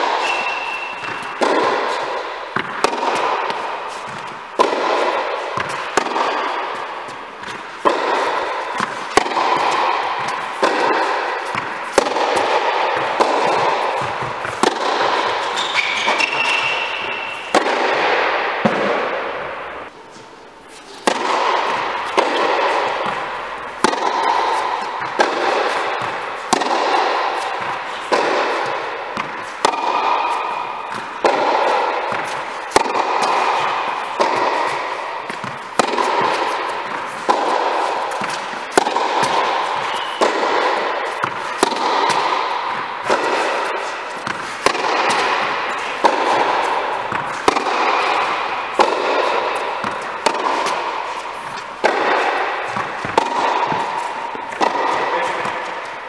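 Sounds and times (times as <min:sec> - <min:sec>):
tennis racket hitting ball: 0:00.0 - 0:56.0.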